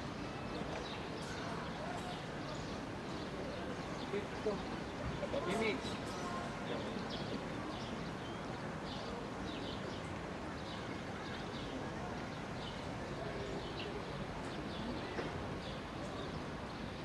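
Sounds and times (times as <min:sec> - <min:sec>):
faint distant voices: 0:00.0 - 0:17.0.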